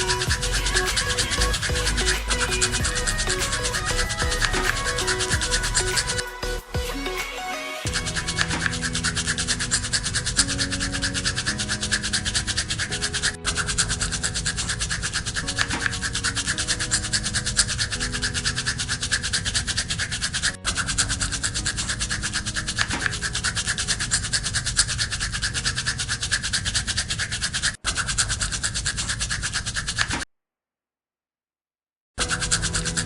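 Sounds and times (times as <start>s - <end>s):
quiet background music: 0.0s - 28.6s, 32.2s - 33.0s.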